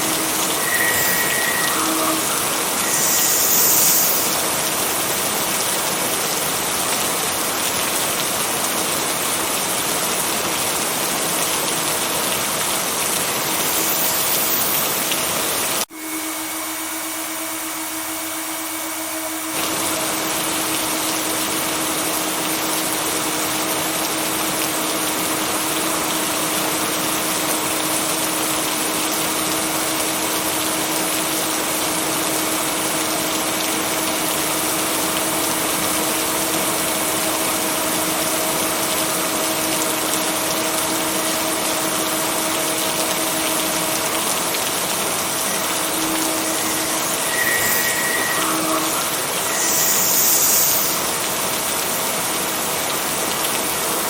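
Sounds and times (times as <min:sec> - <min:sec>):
heavy rain hissing: 0:00.0 - 0:15.9, 0:19.5 - 0:54.0.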